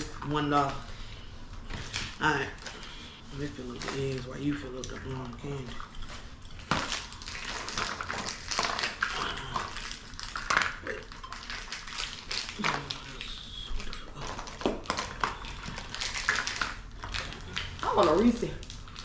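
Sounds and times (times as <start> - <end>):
candy wrappers rustling: 0.0 - 19.0.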